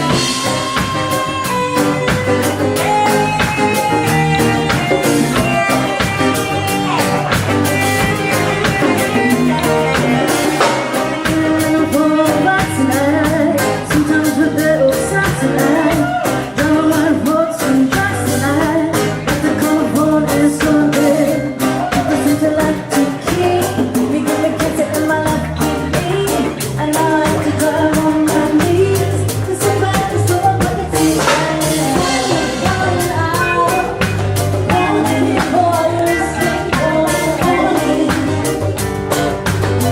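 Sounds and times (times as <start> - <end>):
drum kit: 0.0 - 39.9
guitar: 0.0 - 39.9
person singing: 0.0 - 39.9.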